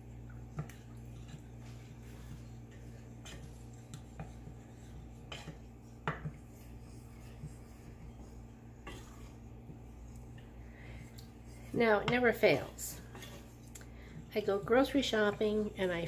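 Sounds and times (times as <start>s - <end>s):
spoon stirring sauce: 0.0s - 16.0s.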